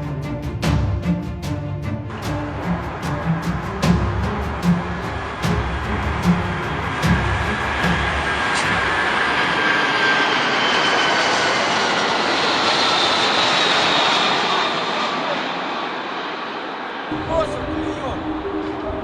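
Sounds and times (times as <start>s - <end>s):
airplane engines running: 0.0s - 19.0s.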